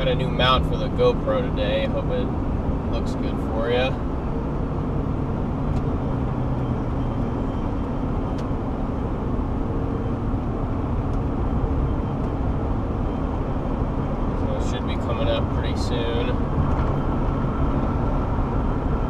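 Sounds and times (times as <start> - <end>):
car driving at highway speed: 0.0 - 19.0.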